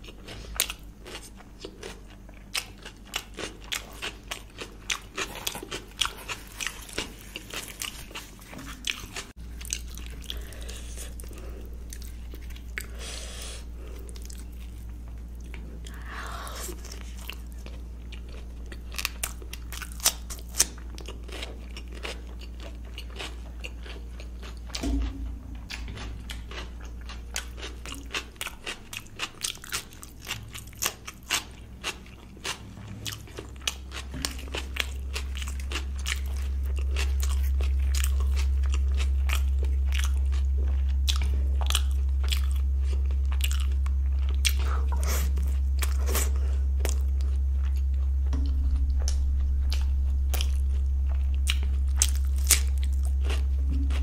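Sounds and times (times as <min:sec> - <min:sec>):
chewing with mouth clicks: 0:00.0 - 0:54.0
low hum: 0:03.6 - 0:54.0.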